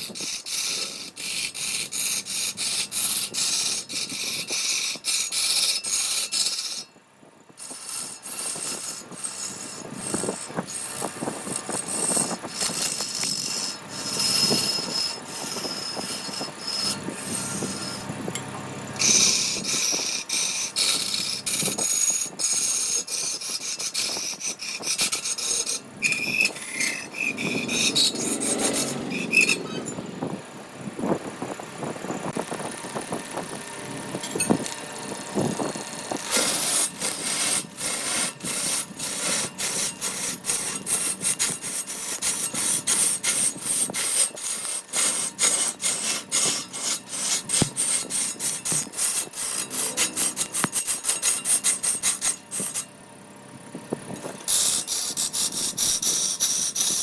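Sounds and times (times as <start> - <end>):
hand tool rasping on wood: 0.0 - 6.9, 7.6 - 18.1, 19.0 - 30.0, 35.5 - 52.9, 54.4 - 57.0.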